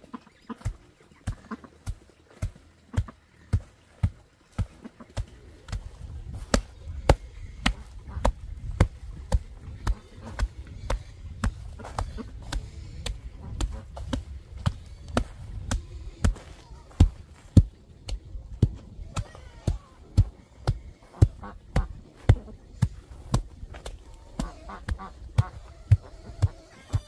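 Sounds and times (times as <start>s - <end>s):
hand tamper thudding on gravel: 0.6s - 27.0s.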